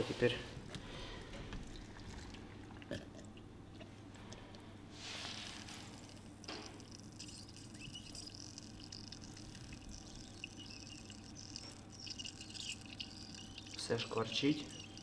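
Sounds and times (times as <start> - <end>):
coffee trickling into glass: 0.8 - 2.9, 5.0 - 15.0.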